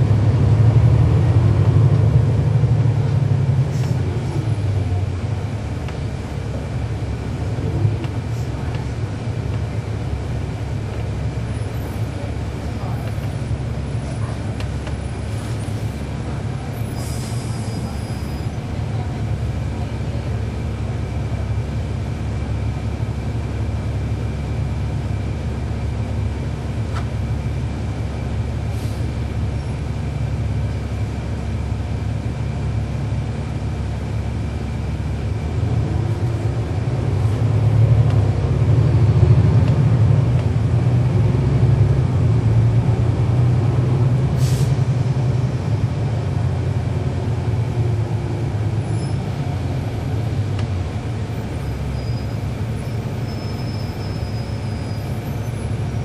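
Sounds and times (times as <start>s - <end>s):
bus diesel engine rumbling: 0.0s - 56.0s.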